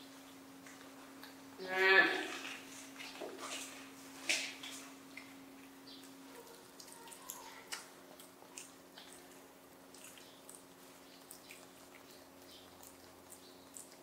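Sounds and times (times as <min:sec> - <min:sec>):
faint steady hum: 0:00.0 - 0:14.0
monkeys chewing wet clicks: 0:00.2 - 0:01.5, 0:02.3 - 0:14.0.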